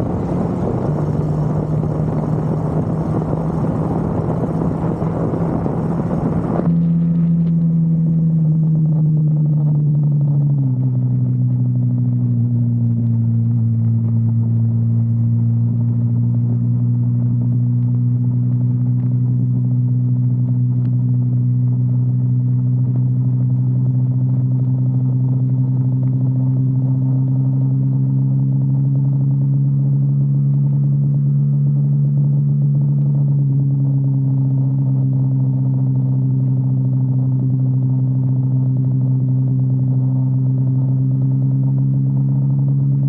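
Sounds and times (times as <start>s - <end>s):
motorcycle engine cruising: 0.0s - 43.0s.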